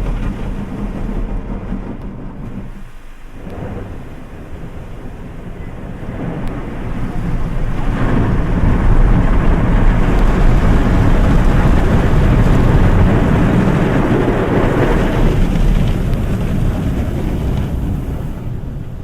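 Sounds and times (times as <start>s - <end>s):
car wash water spray: 0.0s - 19.0s.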